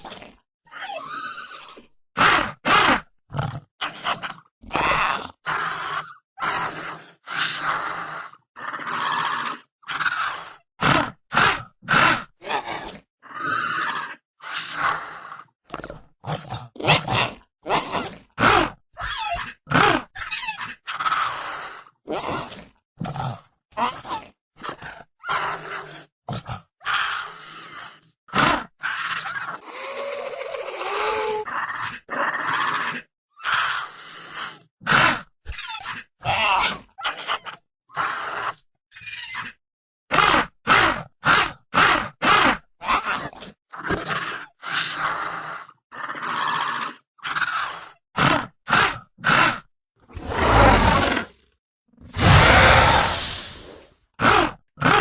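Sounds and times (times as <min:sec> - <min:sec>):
creature growling calls: 0:00.7 - 0:35.3, 0:42.5 - 0:55.0.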